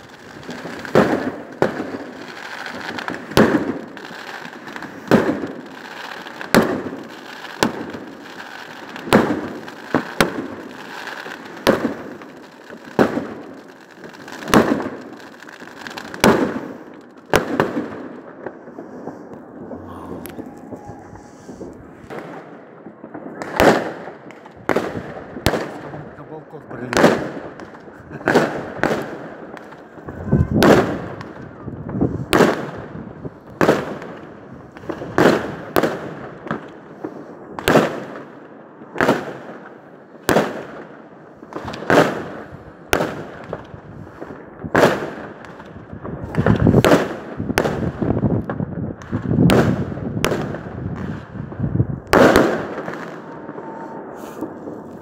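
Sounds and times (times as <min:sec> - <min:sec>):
fireworks exploding with echo: 0:00.0 - 0:55.0.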